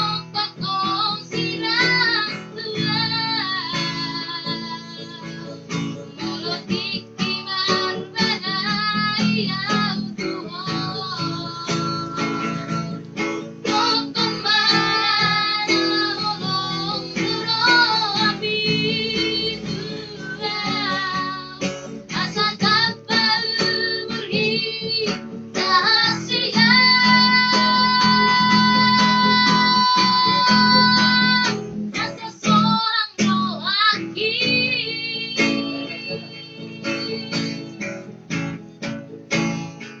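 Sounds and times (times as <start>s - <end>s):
high voice singing: 0.0s - 37.8s
strummed acoustic guitar: 0.0s - 40.0s.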